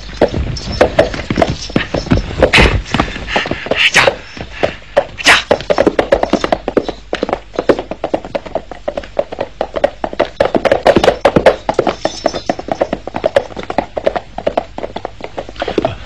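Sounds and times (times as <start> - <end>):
horses galloping: 0.0 - 16.0.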